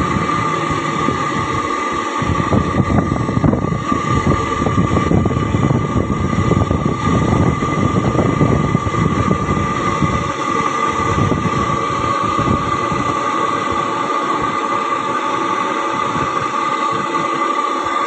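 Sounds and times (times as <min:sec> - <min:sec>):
heavy trucks rumbling: 0:00.0 - 0:17.2
high-pitched whine: 0:00.0 - 0:18.0.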